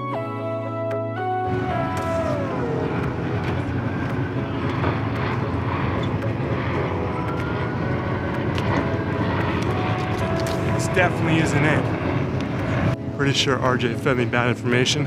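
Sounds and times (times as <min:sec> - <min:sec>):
faint rising whine: 0:01.2 - 0:14.7
engine roar: 0:01.2 - 0:15.0.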